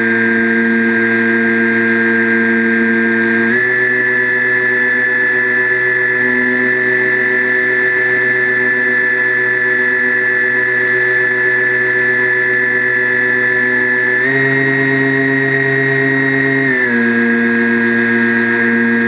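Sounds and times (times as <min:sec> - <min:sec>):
electric motors and propellers whining: 0:00.0 - 0:19.0.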